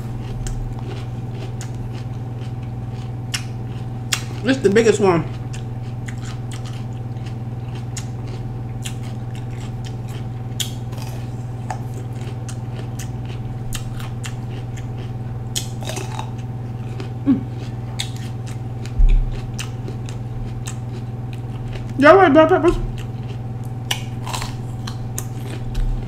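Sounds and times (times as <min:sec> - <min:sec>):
pepper crunching while chewed: 0:00.0 - 0:22.0, 0:22.7 - 0:26.0.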